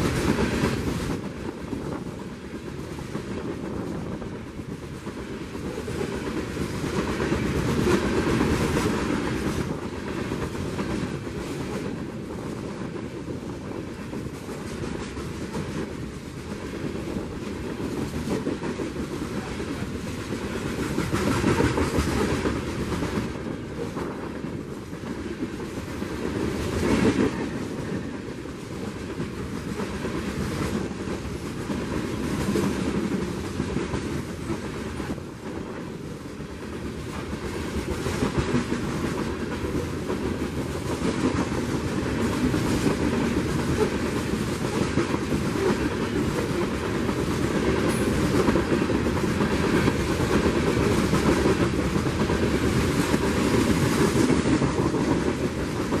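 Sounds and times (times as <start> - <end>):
train wheels rumbling on rails: 0.0 - 56.0
wheels clickety-clack over track: 0.0 - 56.0.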